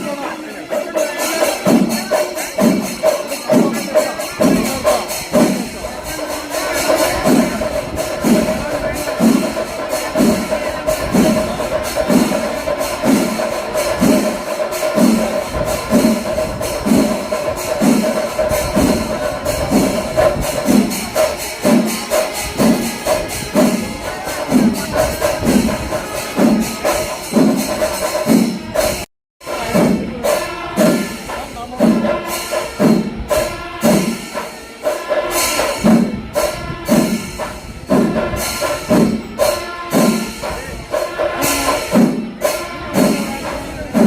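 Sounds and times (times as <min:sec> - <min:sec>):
deep drum strokes: 0:00.0 - 0:44.0
held wind instrument tone: 0:00.0 - 0:44.0
jingling cymbals: 0:00.0 - 0:44.0.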